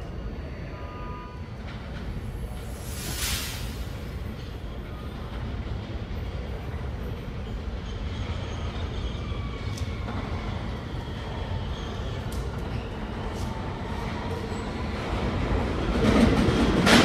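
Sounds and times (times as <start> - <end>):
subway train wheels rumbling: 0.0 - 17.0.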